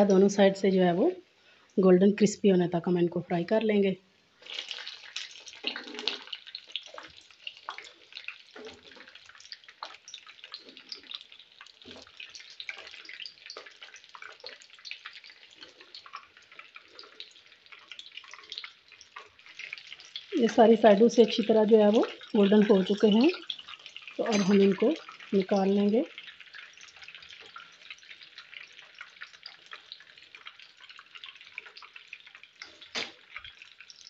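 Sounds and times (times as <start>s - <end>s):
food sizzling in hot oil: 3.3s - 34.0s.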